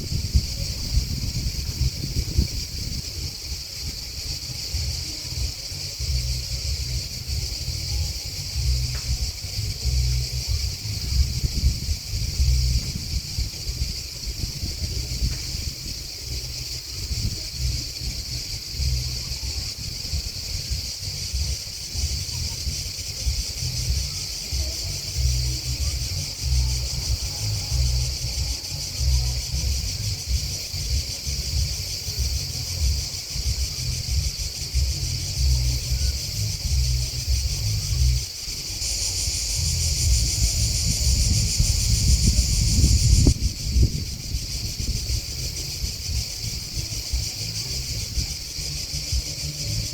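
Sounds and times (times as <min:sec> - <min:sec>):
grasshoppers and crickets chirping: 0:00.0 - 0:49.9
low uneven rumble: 0:00.0 - 0:49.9.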